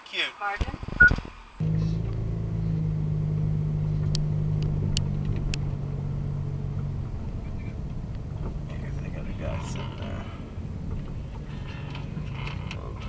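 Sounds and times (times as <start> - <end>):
car engine humming: 0.5 - 13.0.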